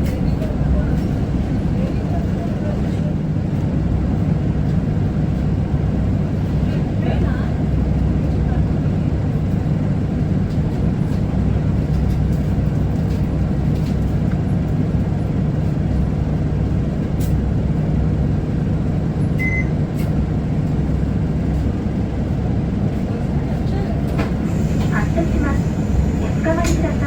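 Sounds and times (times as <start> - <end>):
bus diesel engine idling: 0.0 - 27.0.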